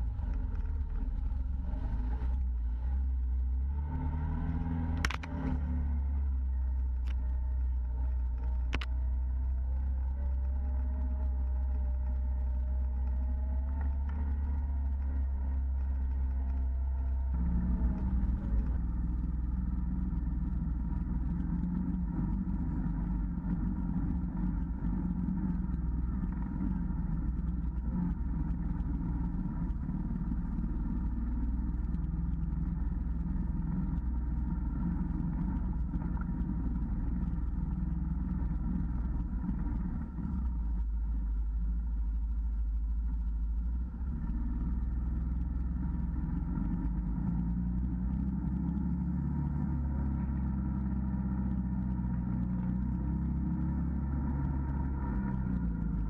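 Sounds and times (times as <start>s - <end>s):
engine whine: 0.0s - 56.0s
utv engine rumbling: 0.0s - 56.0s.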